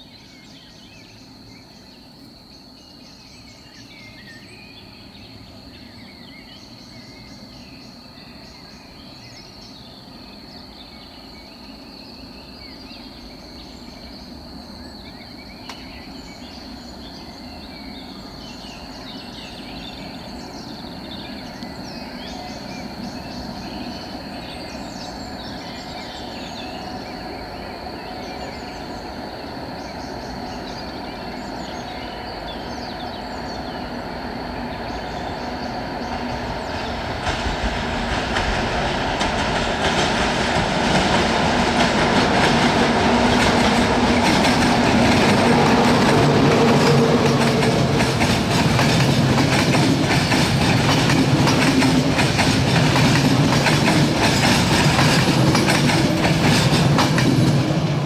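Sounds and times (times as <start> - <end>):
insects chirring: 0.0 - 58.0
birds chirping: 2.8 - 58.0
train rumbling: 4.2 - 58.0.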